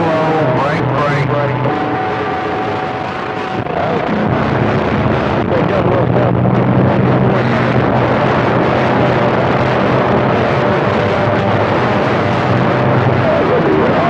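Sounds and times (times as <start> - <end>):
faint warbling radio signals: 0.0 - 14.0
radio static hissing: 0.0 - 14.0
steady low hum: 0.0 - 14.0.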